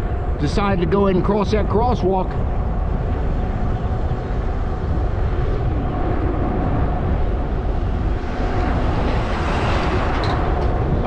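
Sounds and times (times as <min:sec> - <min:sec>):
faint steady whine: 0:00.0 - 0:11.0
wind buffeting microphone: 0:00.0 - 0:11.0.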